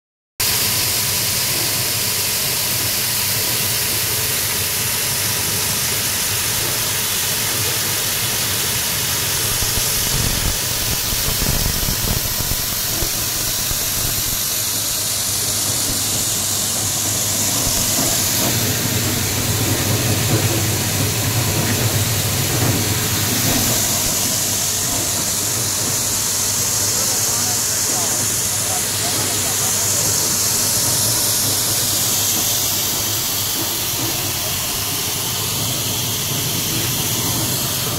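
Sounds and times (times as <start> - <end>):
grain cleaning machine humming: 0.4 - 37.9.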